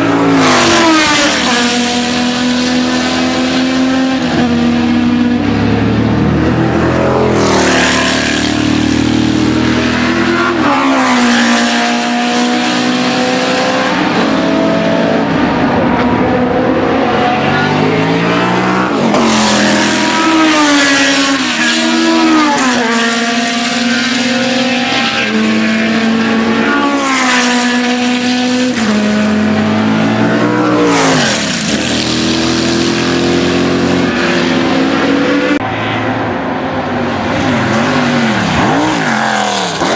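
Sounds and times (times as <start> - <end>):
racing cars passing by: 0.0 - 39.9.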